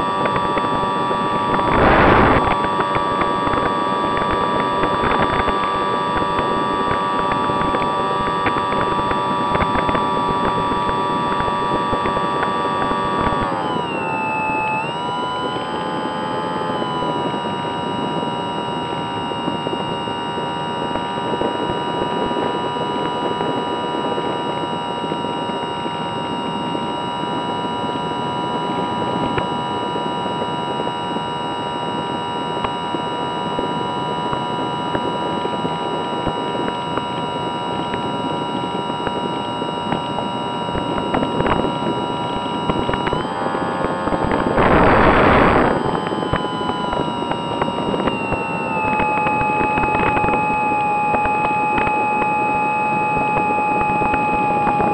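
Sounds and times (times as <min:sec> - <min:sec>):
electric motor and propeller whine: 0:00.0 - 0:54.9.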